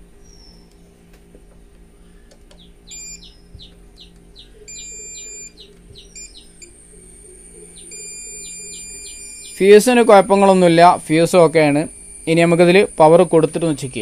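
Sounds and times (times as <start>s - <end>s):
birds chirping: 0.0s - 1.0s, 1.6s - 14.0s
multimeter continuity beeps: 2.6s - 14.0s.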